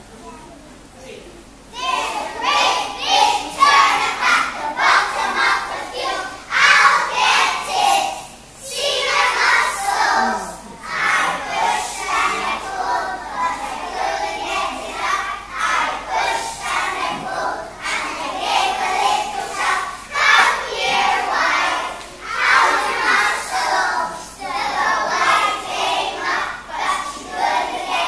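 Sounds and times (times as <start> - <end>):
children shouting and chanting: 1.7 - 28.0.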